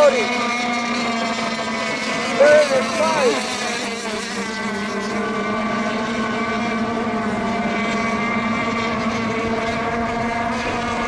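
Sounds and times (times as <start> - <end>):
model boat motors buzzing: 0.0 - 11.0.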